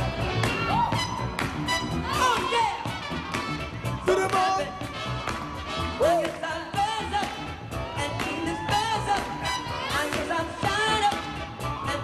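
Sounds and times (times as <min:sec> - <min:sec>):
dance music with singing: 0:00.0 - 0:12.0.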